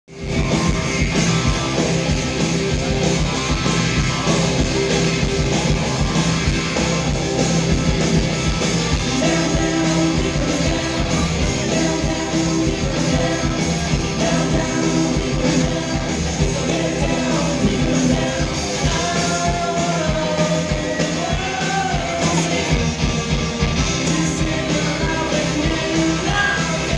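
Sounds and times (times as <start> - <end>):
bass guitar: 0.0 - 26.9
drums: 0.0 - 26.9
electric guitar: 0.1 - 26.9.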